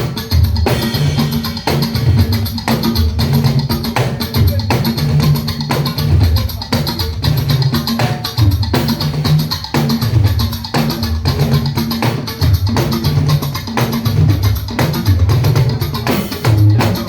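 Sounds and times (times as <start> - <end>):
drums and percussion: 0.0 - 17.0.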